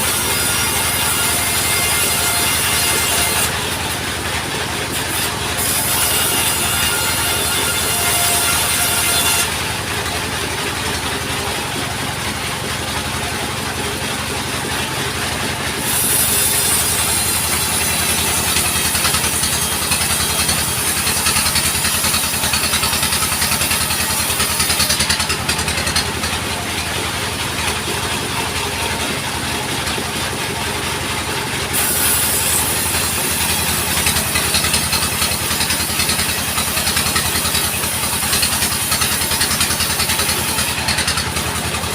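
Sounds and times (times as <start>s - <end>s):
saw cutting timber: 0.0s - 41.9s
sawmill engine running: 0.0s - 41.9s.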